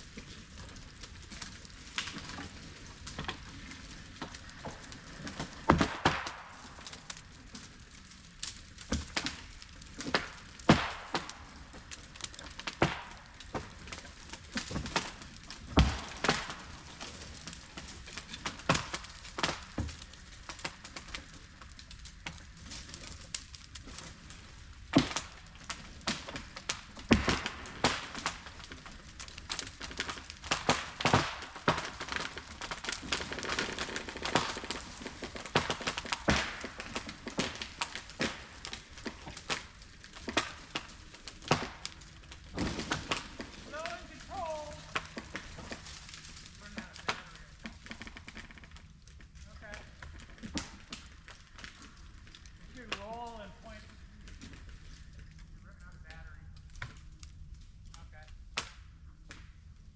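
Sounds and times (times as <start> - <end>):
twigs snapping and crunching: 0.1 - 55.6, 56.5 - 59.5.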